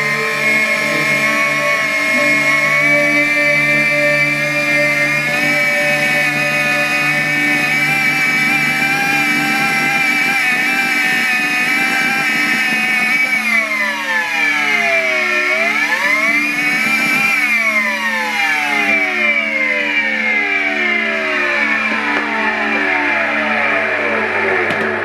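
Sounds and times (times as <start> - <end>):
vacuum cleaner motor whining: 0.0 - 25.0.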